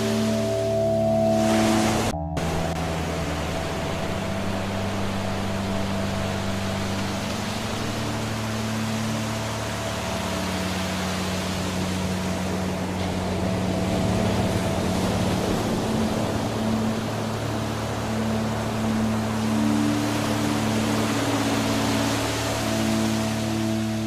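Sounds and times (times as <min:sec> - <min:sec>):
ambient drone music: 0:00.0 - 0:24.0
waterfall rushing: 0:00.0 - 0:24.0.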